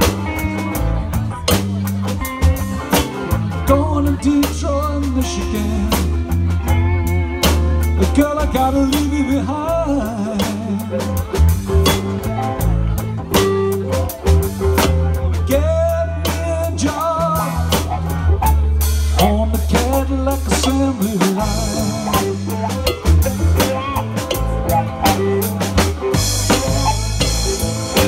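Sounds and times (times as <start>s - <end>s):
drum kit: 0.0s - 28.0s
electric guitar lead lines: 0.0s - 28.0s
steady bass line: 0.0s - 28.0s.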